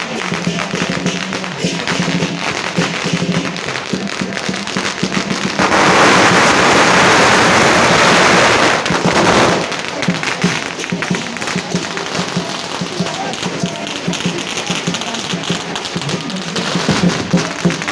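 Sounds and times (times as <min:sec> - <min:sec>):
drumming: 0:00.0 - 0:17.9
firecrackers crackling: 0:00.0 - 0:17.9.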